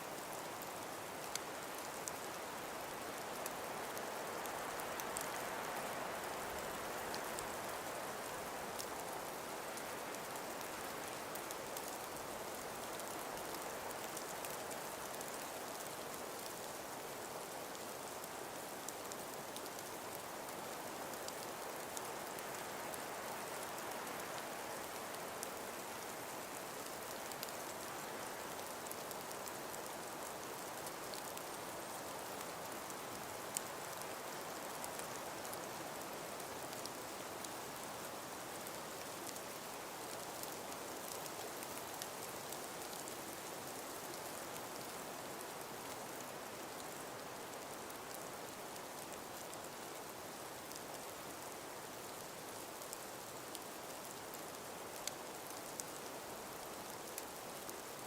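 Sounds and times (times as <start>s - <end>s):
faint light ticks: 0.0s - 58.0s.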